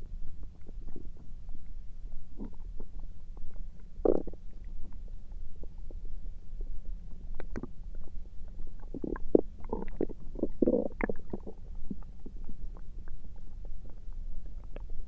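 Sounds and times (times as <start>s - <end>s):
steady low hum: 0.0s - 15.0s
stomach gurgling: 0.0s - 15.0s.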